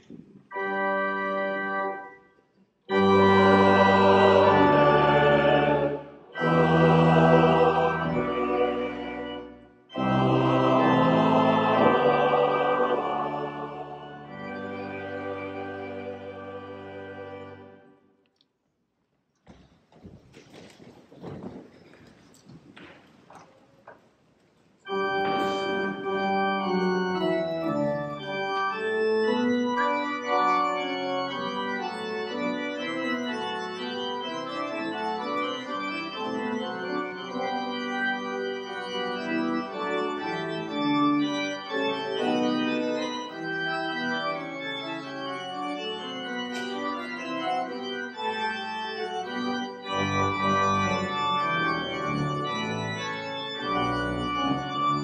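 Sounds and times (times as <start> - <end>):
church organ playing chords: 0.0 - 18.0, 24.8 - 55.0.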